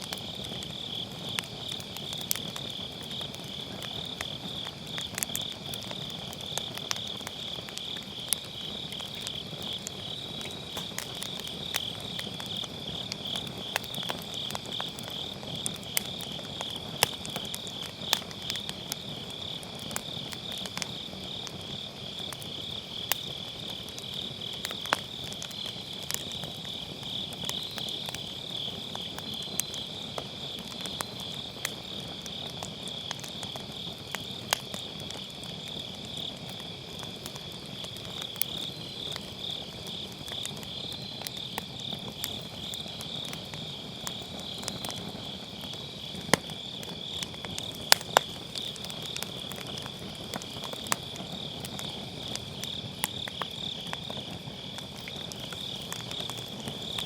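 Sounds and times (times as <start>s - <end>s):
fire crackling and popping: 0.0s - 57.0s
insects chirping: 0.0s - 57.0s.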